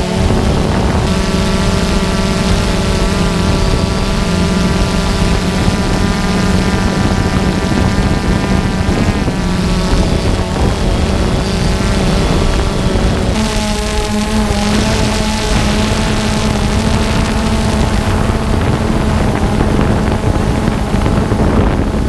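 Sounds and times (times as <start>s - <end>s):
drone propellers buzzing: 0.0s - 22.0s.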